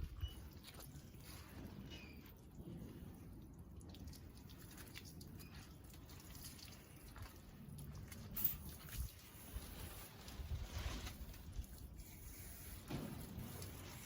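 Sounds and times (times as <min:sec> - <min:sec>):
water dripping and trickling: 0:00.0 - 0:14.0.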